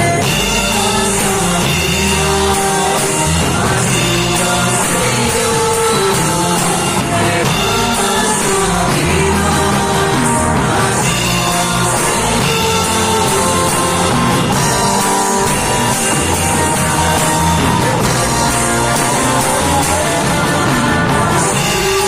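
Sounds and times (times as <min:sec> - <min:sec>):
guitar: 0:00.0 - 0:22.0
person singing: 0:00.0 - 0:22.0
sustained bass notes: 0:00.0 - 0:22.0
worship band playing: 0:00.0 - 0:22.0.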